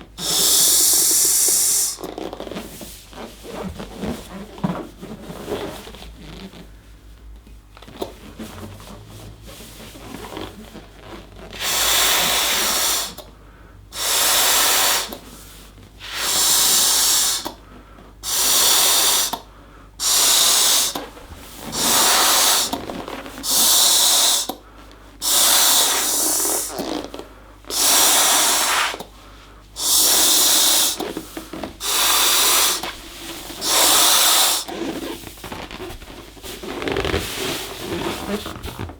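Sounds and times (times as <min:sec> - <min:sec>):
rubber balloon handling: 0:00.0 - 0:13.4, 0:14.0 - 0:38.9
puffs of air into balloon: 0:00.1 - 0:04.5, 0:07.9 - 0:38.9.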